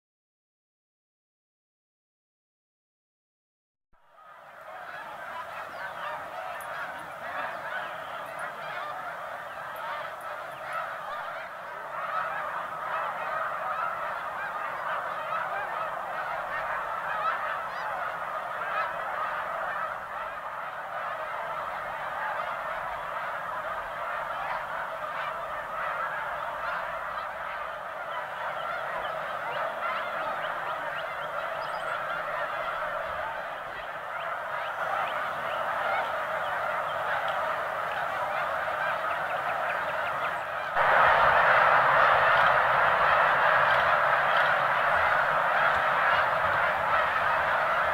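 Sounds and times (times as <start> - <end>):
geese honking: 4.1 - 47.9.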